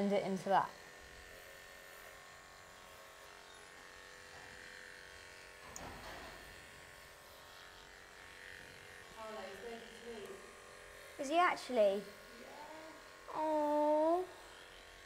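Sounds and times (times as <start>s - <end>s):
horse clippers buzzing: 0.0s - 15.0s.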